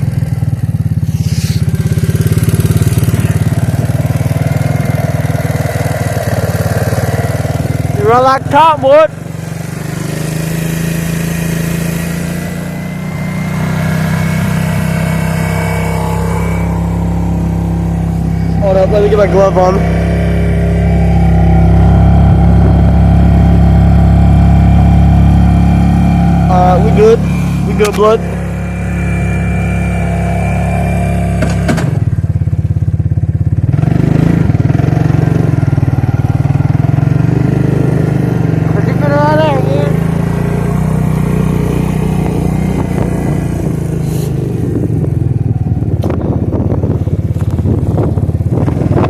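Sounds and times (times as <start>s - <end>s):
quad bike engine running: 0.0s - 49.0s.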